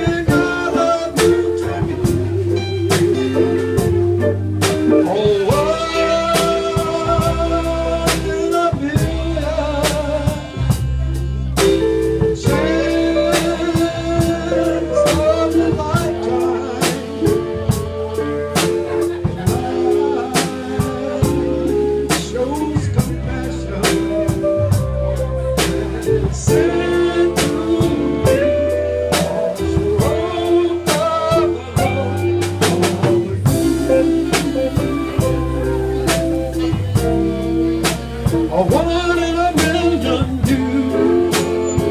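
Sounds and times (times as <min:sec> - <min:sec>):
man singing into microphone: 0:00.0 - 0:04.0, 0:04.9 - 0:37.2, 0:38.2 - 0:41.9
live band playing: 0:00.0 - 0:41.9.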